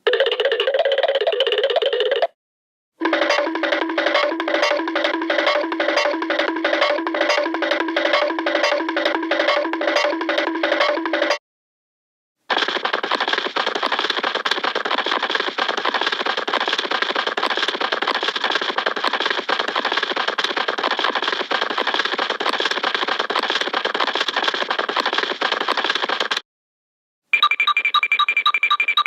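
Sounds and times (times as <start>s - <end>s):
cartoon running clatter: 0.0s - 2.4s, 3.0s - 11.4s, 12.5s - 26.4s.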